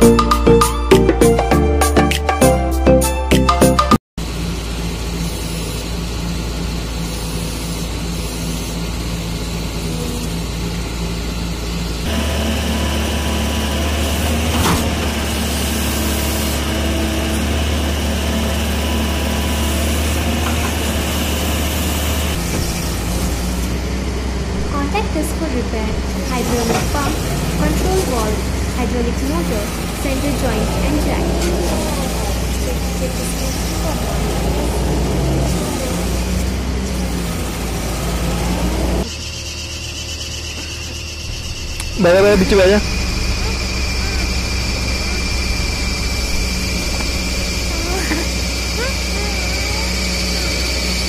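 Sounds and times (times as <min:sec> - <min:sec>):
excavator diesel engine running: 0:03.7 - 0:51.0.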